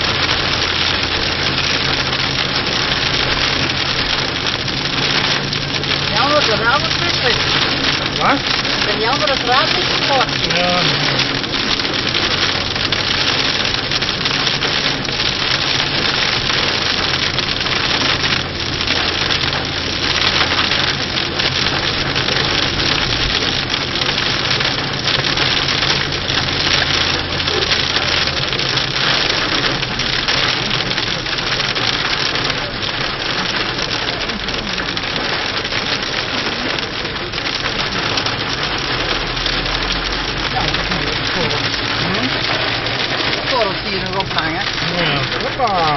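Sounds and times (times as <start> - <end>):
low engine hum: 0.0 - 45.9
rain and hail on car roof: 0.0 - 45.9.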